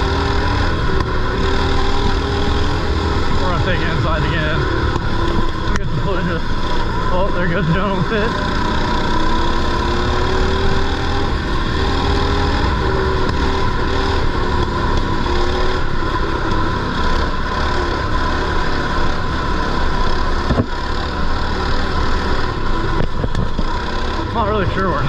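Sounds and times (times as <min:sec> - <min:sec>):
small motorbike engine revving: 0:00.0 - 0:25.0.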